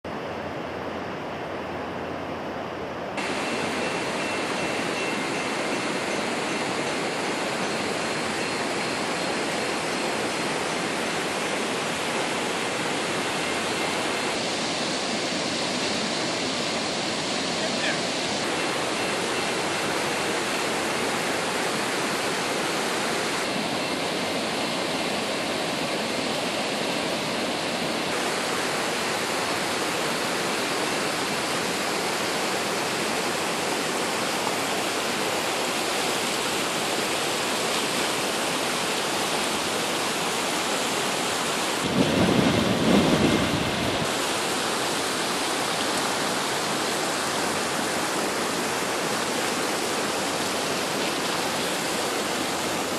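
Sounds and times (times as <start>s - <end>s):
floodwater rushing: 0.3s - 52.9s.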